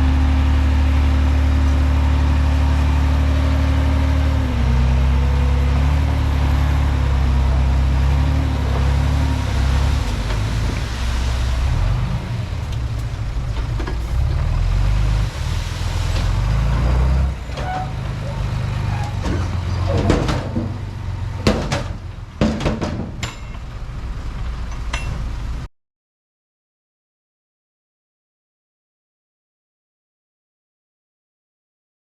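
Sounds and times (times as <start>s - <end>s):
bulldozer diesel engine rumbling: 0.0s - 25.7s.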